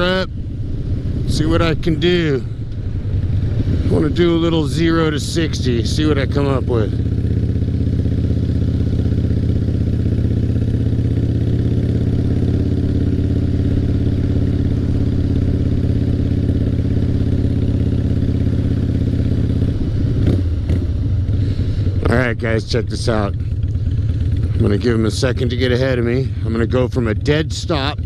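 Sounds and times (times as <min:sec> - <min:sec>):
motorcycle engine running steadily: 0:00.0 - 0:28.0.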